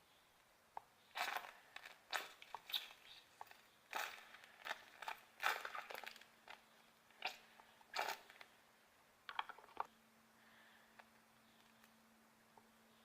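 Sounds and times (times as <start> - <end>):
faint steady hum: 0.0 - 13.0
crackles and clicks of handling: 0.4 - 8.6, 9.2 - 10.0, 10.9 - 12.7.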